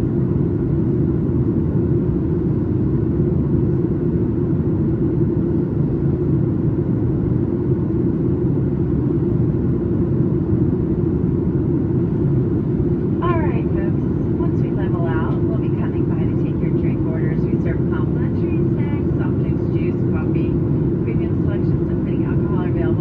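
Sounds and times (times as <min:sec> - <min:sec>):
airplane cabin drone: 0:00.0 - 0:23.0.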